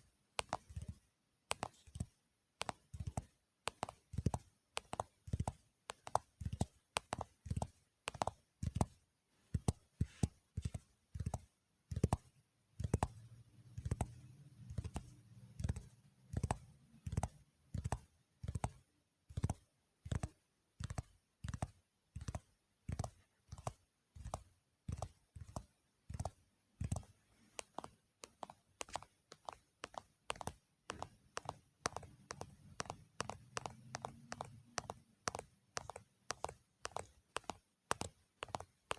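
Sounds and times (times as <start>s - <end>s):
fingers tapping on objects: 0.4s - 38.9s.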